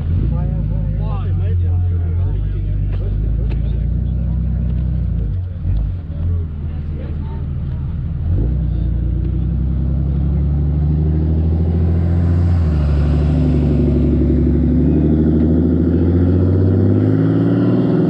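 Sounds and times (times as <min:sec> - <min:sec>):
vehicle engine running: 0:00.0 - 0:17.4.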